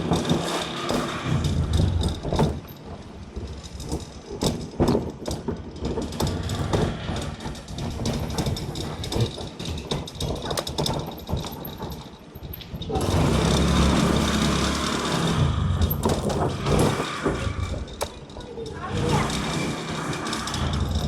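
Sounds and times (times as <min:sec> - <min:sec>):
small engine running with clicks: 0:00.0 - 0:21.0.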